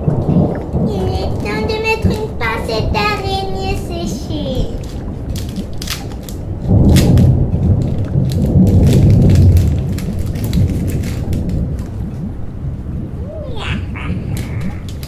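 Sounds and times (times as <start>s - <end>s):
rain crackling: 0.0s - 15.0s
thunder rumbling: 0.0s - 15.0s.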